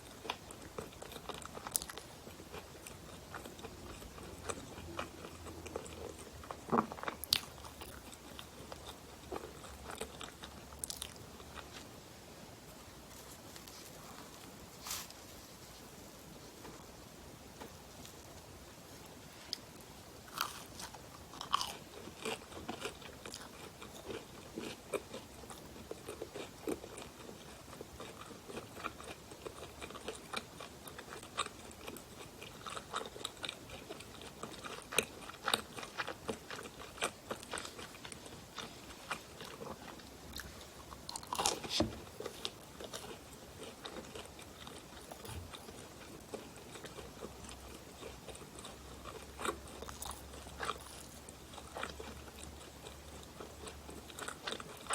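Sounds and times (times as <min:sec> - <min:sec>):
crunchy pastry chewing: 0:00.0 - 0:12.0, 0:19.4 - 0:54.9.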